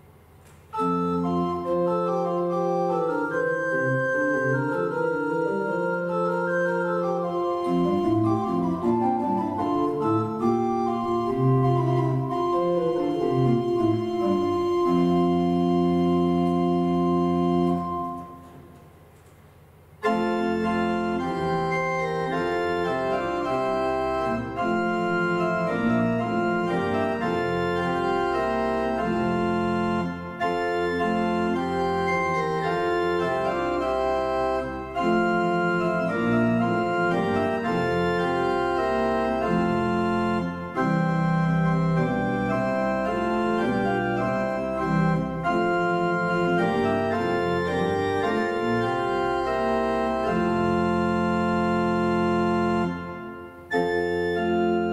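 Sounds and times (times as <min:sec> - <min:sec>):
pipe organ chords: 0:00.0 - 0:19.1, 0:19.8 - 0:54.9.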